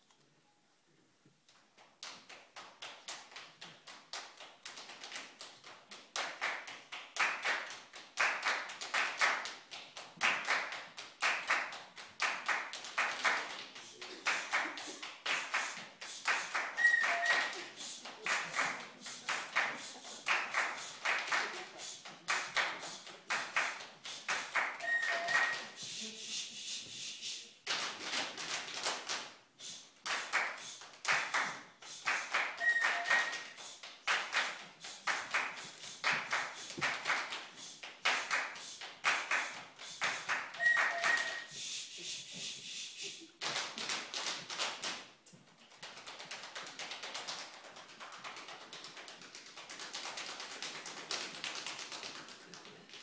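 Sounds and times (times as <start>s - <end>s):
rhythmic hand claps and slaps: 1.5s - 53.0s.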